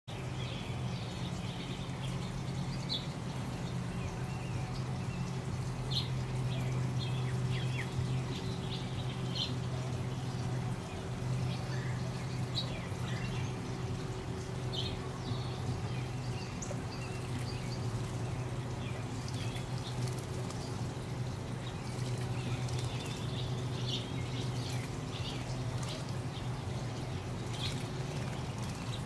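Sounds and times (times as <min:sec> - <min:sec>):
low hum: 0:00.1 - 0:29.0
small birds chirping: 0:00.1 - 0:29.0
water trickling over pebbles: 0:00.1 - 0:29.0.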